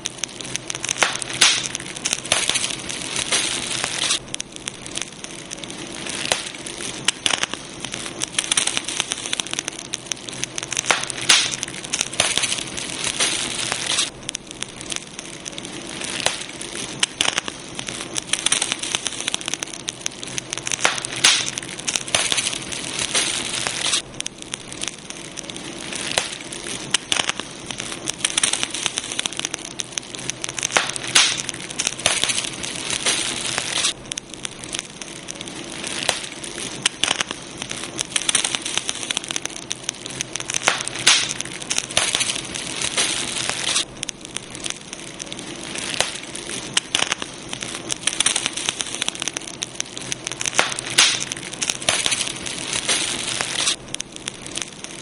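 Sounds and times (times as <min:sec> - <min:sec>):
campfire crackling and popping: 0:00.0 - 0:55.0
constant hiss of fire: 0:00.0 - 0:55.0.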